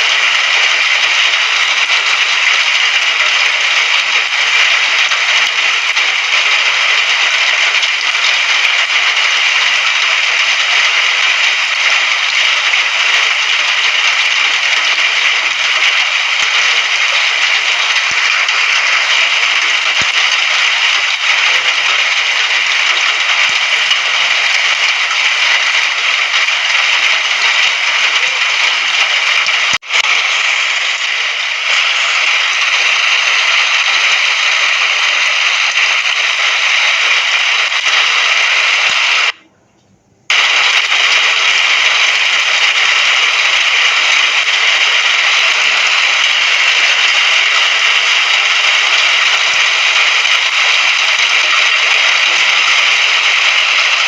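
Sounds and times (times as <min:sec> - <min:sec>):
rain falling: 0:00.0 - 0:39.4, 0:40.3 - 0:54.0.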